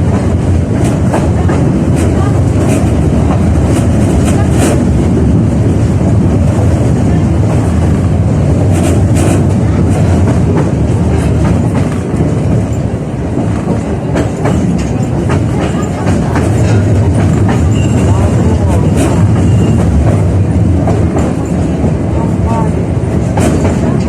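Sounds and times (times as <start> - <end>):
tram rumbling along track: 0.0 - 24.0.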